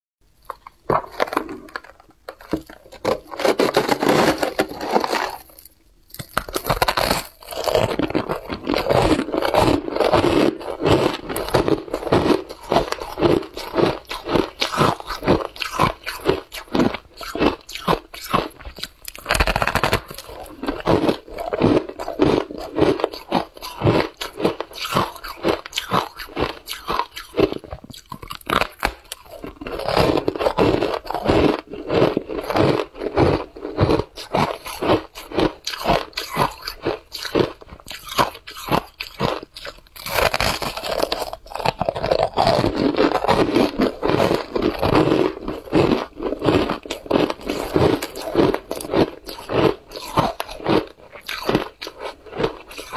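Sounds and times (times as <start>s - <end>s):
shaved ice being crunched: 1.0s - 52.9s.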